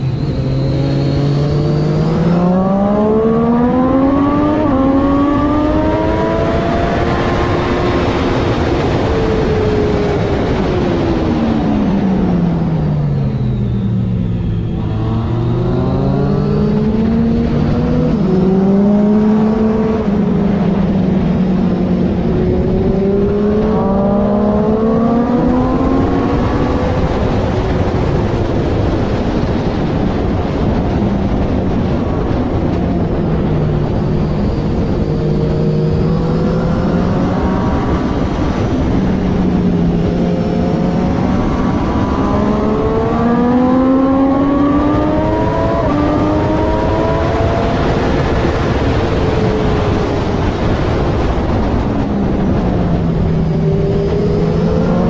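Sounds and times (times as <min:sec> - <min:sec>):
motorcycle engine revving: 0:00.0 - 0:55.0
steady rushing noise: 0:00.0 - 0:55.0.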